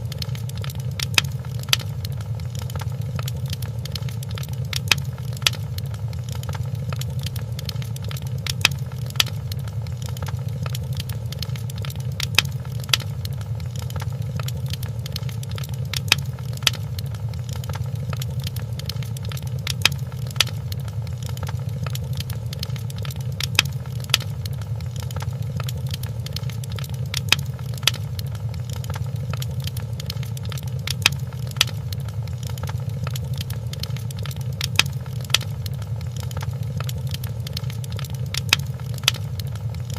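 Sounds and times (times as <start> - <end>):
wood fire crackling: 0.0 - 39.9
loud fire pops: 0.1 - 39.9.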